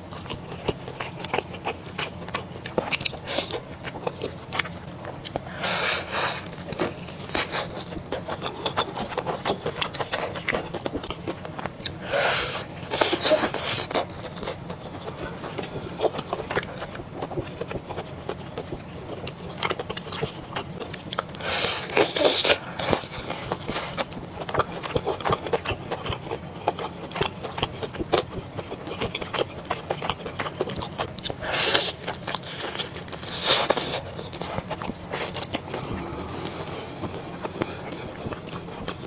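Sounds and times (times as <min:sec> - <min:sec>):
person chewing: 0:00.1 - 0:39.0.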